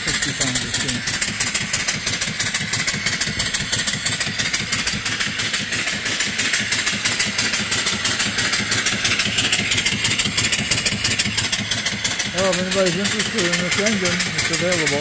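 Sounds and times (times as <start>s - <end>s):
steam engine exhaust chuffs: 0.0s - 15.0s.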